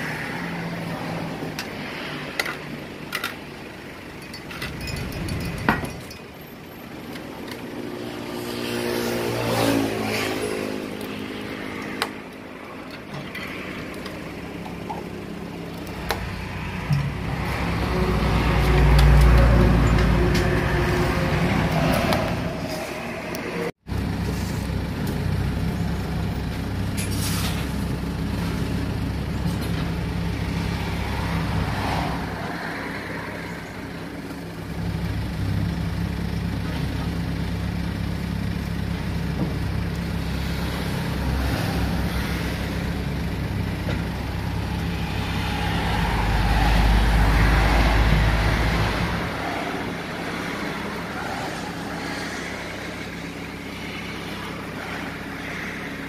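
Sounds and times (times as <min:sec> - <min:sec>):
low rumble of vehicle engines: 0:00.0 - 0:56.0.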